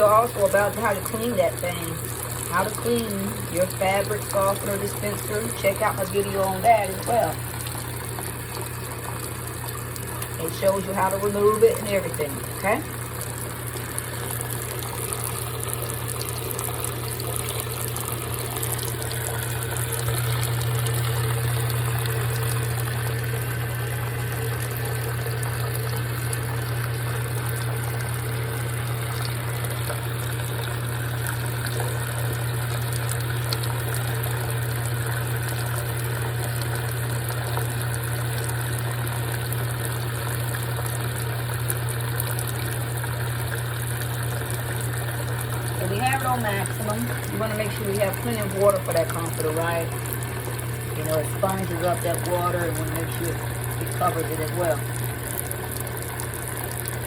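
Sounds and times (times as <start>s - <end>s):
water pouring into washing machine: 0.0s - 57.0s.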